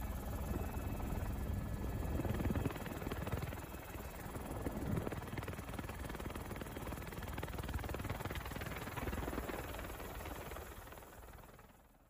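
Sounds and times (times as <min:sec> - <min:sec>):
helicopter cabin rumble: 0:00.0 - 0:09.8.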